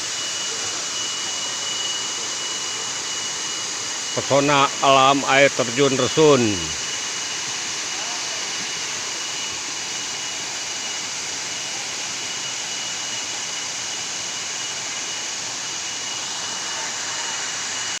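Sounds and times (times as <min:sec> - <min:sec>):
thin steady high tone: 0:00.0 - 0:18.0.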